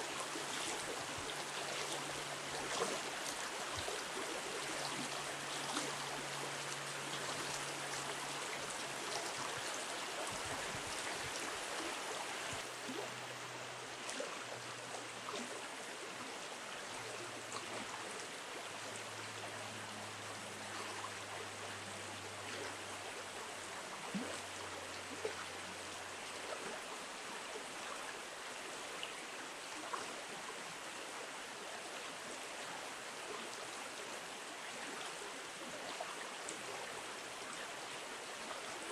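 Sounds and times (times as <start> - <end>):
shallow river water rushing: 0.0 - 38.9.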